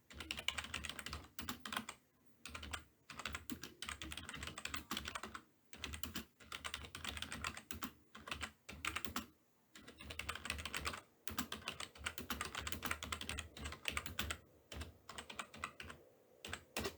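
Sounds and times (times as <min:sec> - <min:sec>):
computer keyboard typing: 0:00.1 - 0:16.9.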